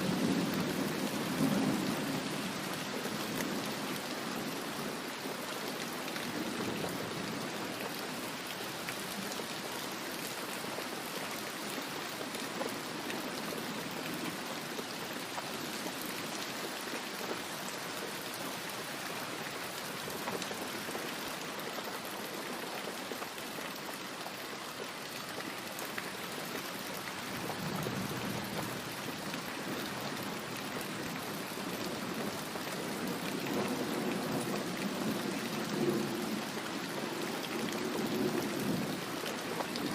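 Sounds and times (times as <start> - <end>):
heavy rain splashing on surfaces: 0.0 - 39.9.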